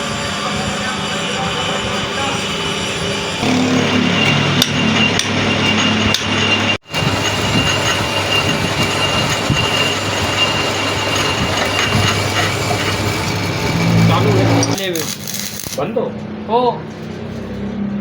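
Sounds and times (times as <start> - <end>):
metal lathe running: 0.0 - 15.8
thin high squeal: 0.0 - 15.8.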